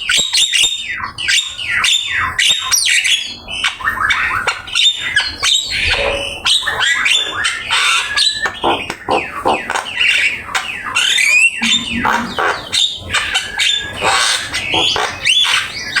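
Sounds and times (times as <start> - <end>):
myna singing whistles and squawks: 0.0 - 16.0.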